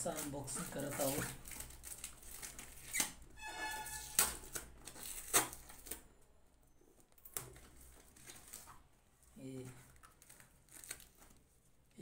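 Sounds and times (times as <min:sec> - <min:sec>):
packaging rustling: 0:00.0 - 0:03.3, 0:04.0 - 0:06.1, 0:07.0 - 0:11.6.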